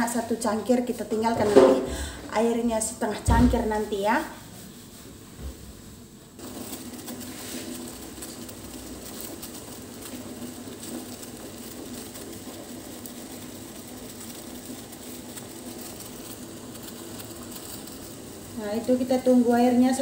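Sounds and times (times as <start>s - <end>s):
liquid boiling in a pot: 0.0s - 20.0s.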